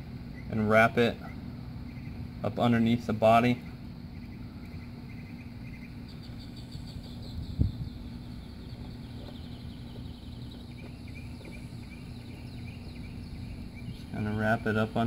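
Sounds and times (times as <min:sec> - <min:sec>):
steady low hum: 0:00.0 - 0:15.0
high chirping trills: 0:00.3 - 0:15.0.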